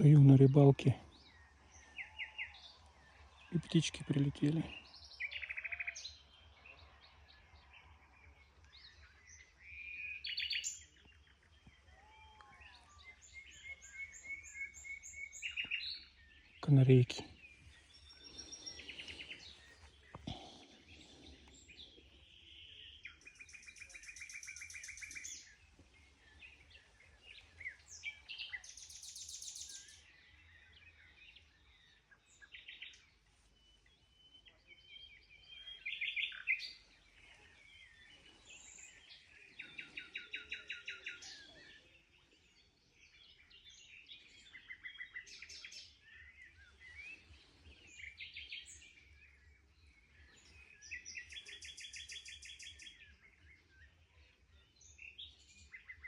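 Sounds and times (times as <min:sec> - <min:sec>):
songbirds trilling: 0:00.0 - 0:56.0.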